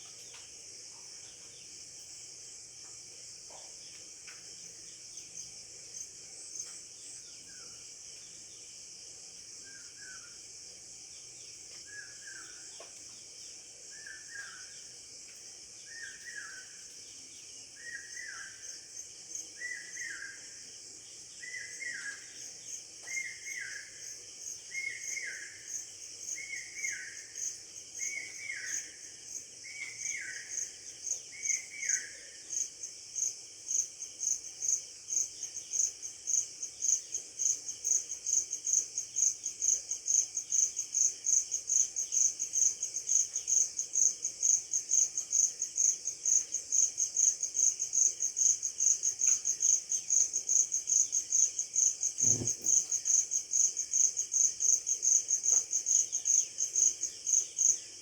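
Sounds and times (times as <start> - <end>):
high insect chorus: 0.0 - 58.0.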